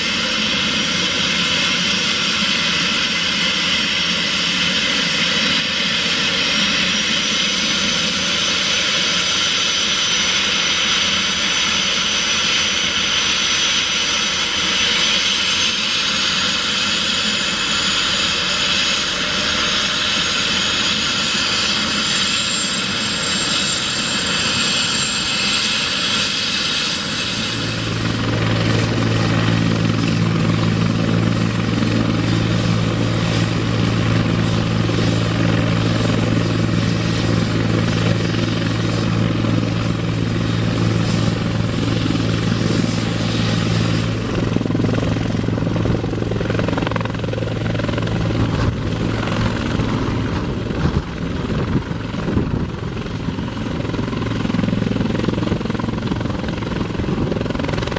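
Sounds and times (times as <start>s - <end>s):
helicopter rotor and engine hum: 0.0s - 57.9s
high turbine whine: 0.0s - 57.9s.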